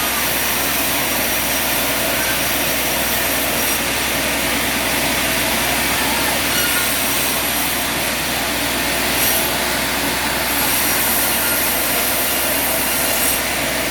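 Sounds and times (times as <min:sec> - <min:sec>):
sawmill machinery running: 0:00.0 - 0:13.9.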